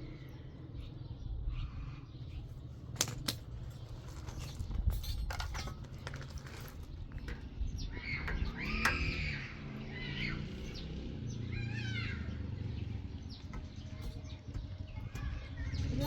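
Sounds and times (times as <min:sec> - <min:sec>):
birds chirping: 0:00.0 - 0:16.0
low background rumble: 0:00.0 - 0:16.0.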